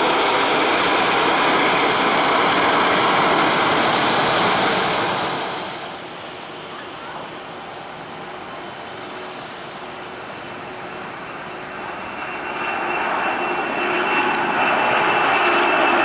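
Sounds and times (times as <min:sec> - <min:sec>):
high fan whine: 0:00.0 - 0:15.8
jet engines at takeoff thrust: 0:00.0 - 0:16.0.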